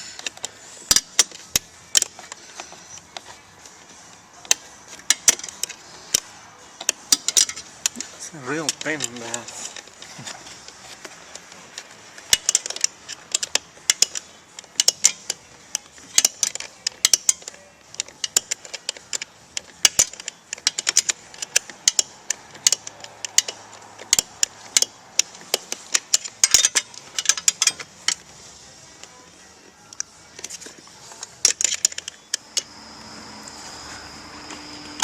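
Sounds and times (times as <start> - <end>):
metallic clicks and clinks: 0.0 - 28.3, 29.9 - 32.8.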